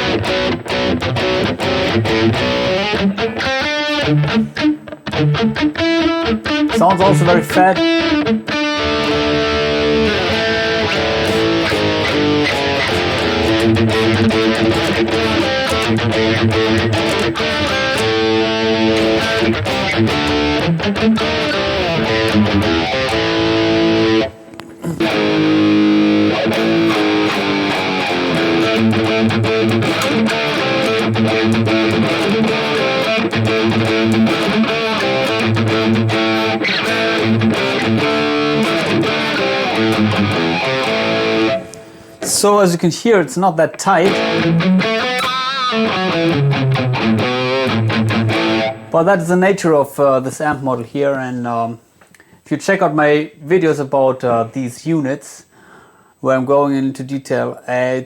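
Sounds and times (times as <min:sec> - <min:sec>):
distorted electric guitar riff: 0:00.0 - 0:42.5, 0:43.9 - 0:49.3.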